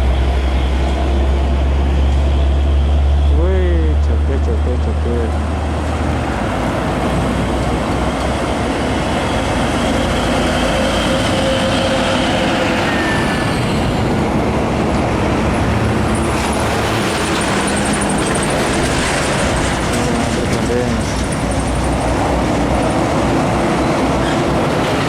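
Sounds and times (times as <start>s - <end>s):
heavy road traffic: 0.0s - 25.0s.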